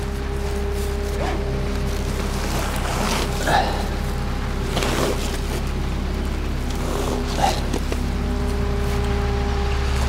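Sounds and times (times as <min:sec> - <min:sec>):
skid steer engine running: 0:00.0 - 0:10.0.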